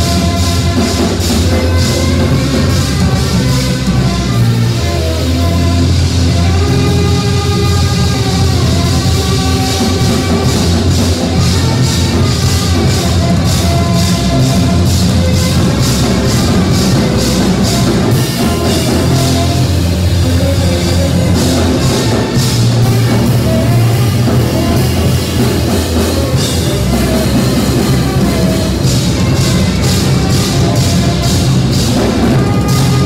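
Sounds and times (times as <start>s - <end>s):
drum kit with cymbals: 0.0s - 33.0s
electric bass guitar: 0.0s - 33.0s.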